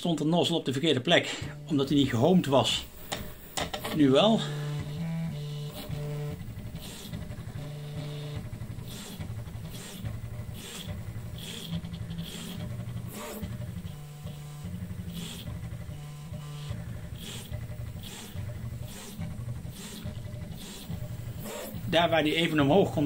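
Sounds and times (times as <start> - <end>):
stepper motors whining: 1.3 - 23.0.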